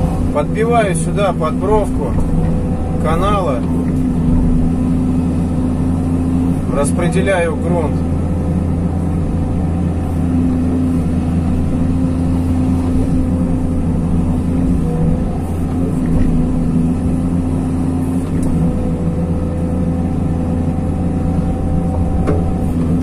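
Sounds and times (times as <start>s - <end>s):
excavator diesel engine running: 0.0s - 23.0s
hydraulics working: 0.0s - 23.0s.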